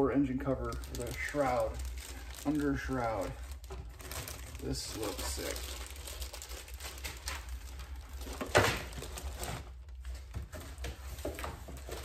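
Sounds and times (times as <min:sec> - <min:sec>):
cardboard and plastic packaging rustling: 0:00.0 - 0:12.0.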